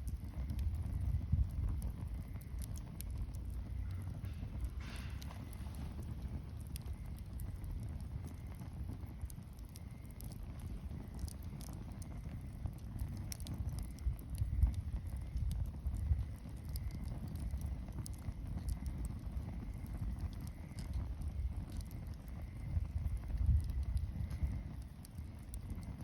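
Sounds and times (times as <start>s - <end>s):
bonfire crackling and popping: 0.0s - 26.0s
fire low rumble: 0.0s - 26.0s.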